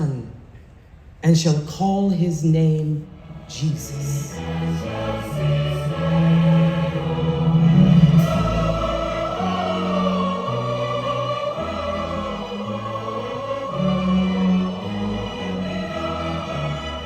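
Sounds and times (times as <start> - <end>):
orchestral accompaniment: 2.2 - 17.0
choir singing sustained chords: 3.1 - 17.0.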